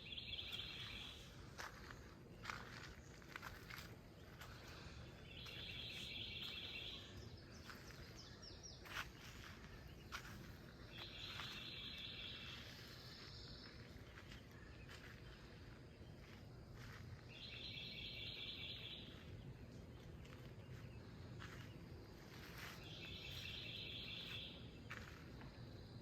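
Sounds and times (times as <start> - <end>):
high bird chirps: 0.0 - 19.4, 22.3 - 25.2.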